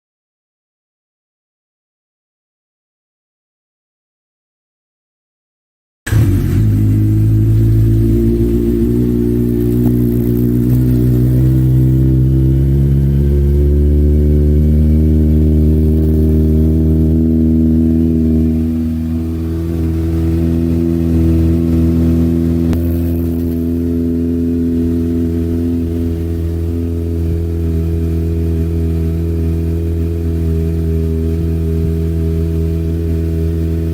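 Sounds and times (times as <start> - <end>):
motorcycle engine running steadily: 6.1 - 33.9.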